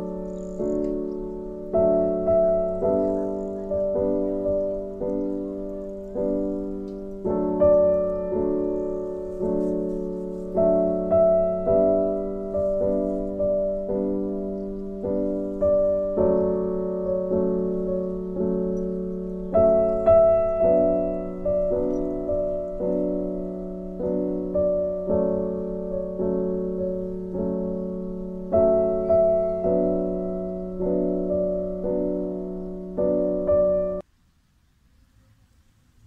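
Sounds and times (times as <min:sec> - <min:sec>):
gentle piano tune: 0:00.0 - 0:34.1.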